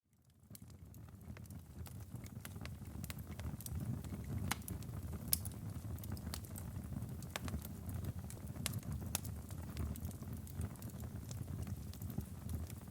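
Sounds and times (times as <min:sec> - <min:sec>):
burning wood crackling and popping: 0:00.2 - 0:12.9
low rumble of flames: 0:00.2 - 0:12.9.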